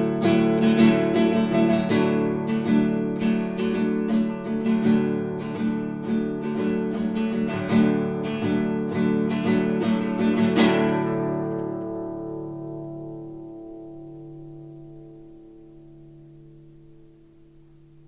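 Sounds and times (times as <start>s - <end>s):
classical guitar fingerstyle: 0.0s - 18.0s.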